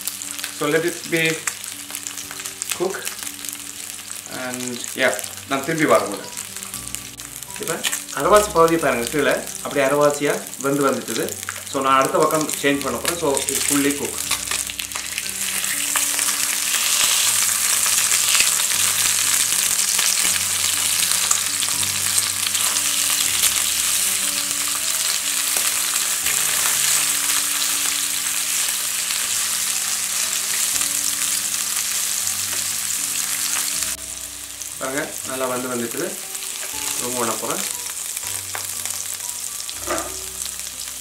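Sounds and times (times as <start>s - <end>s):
fish sizzling in hot oil: 0.0s - 41.0s.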